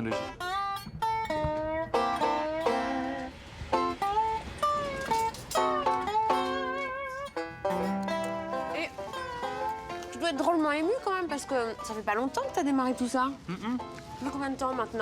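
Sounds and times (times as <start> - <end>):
plucked banjo country tune: 0.0 - 15.0.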